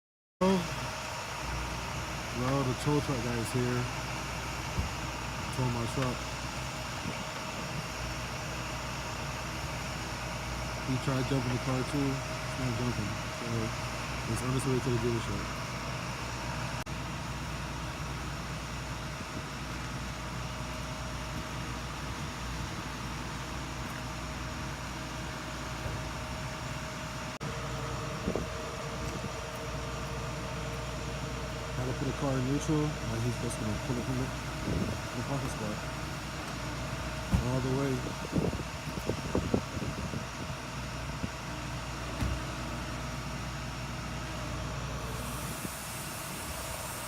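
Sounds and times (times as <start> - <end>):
truck engine idling: 0.4 - 47.0.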